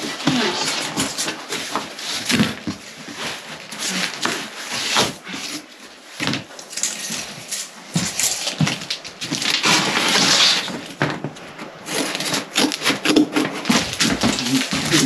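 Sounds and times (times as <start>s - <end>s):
cardboard rustling and scraping: 0.0s - 15.0s.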